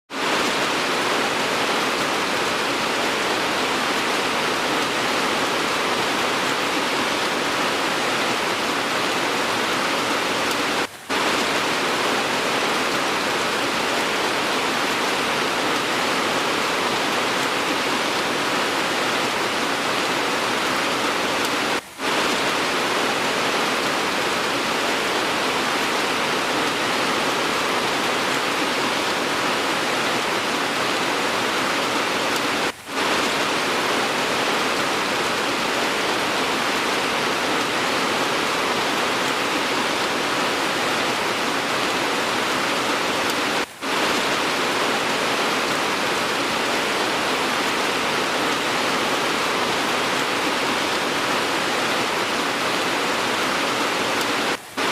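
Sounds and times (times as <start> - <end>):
steady rain hiss: 0.1 - 54.9.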